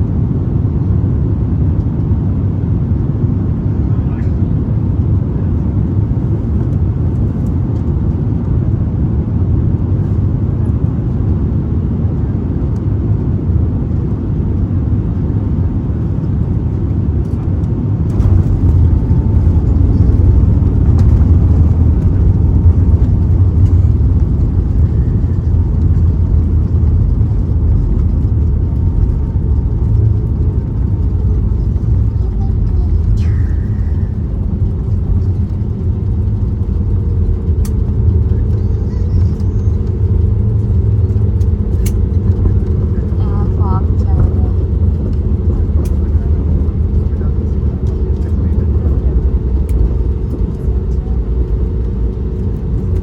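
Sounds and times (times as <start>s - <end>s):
jet engines and airflow rumble: 0.0s - 53.0s.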